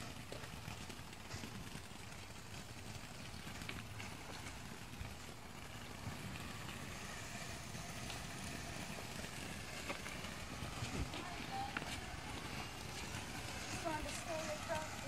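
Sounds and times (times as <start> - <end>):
firework fountain hissing: 0.0 - 15.0.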